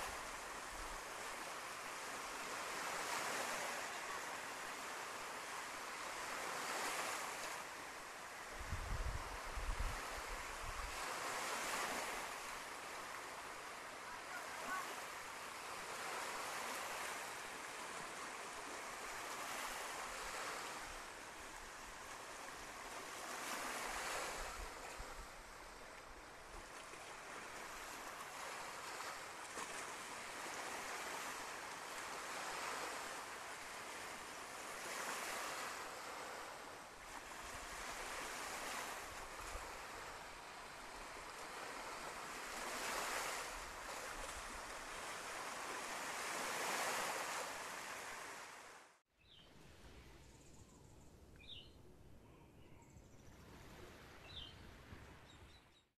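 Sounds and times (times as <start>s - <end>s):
waves washing onto a beach: 0.0s - 49.0s.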